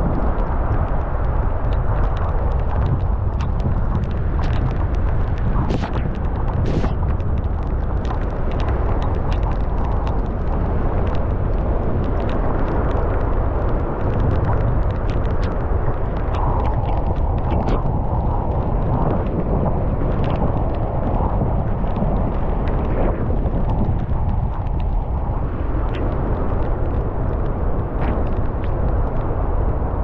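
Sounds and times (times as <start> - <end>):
raindrops ticking on microphone: 0.0 - 30.0
wind buffeting microphone: 0.0 - 30.0.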